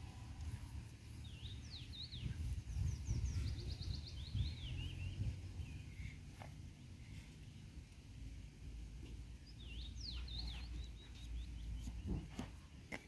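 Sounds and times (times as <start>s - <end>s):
songbird singing: 0.0s - 8.2s, 9.0s - 13.0s.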